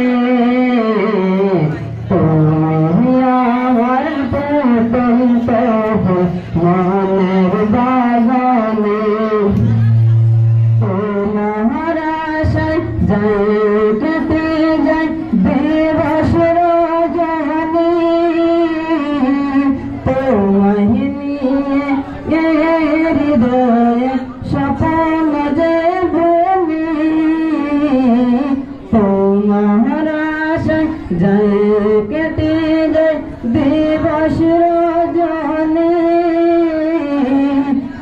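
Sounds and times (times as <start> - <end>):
man singing into microphone: 0.0 - 38.0.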